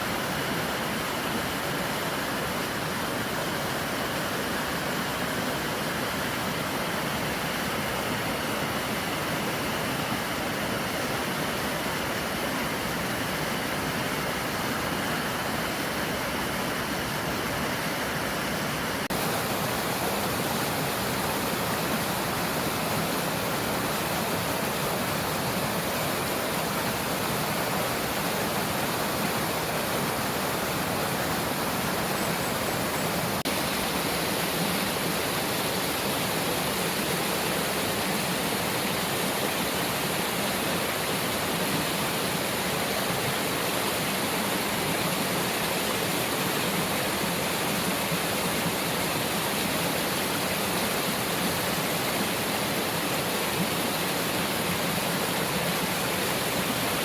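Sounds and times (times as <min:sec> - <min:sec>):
stream rushing water: 0:00.0 - 0:57.0.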